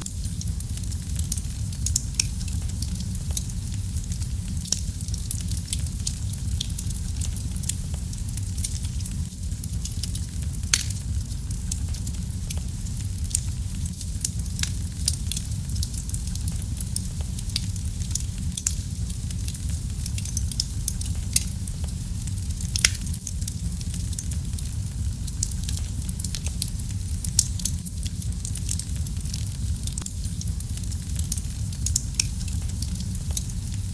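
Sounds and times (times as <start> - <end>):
fire popping and snapping: 0.0 - 33.9
low rumble of flames: 0.0 - 33.9.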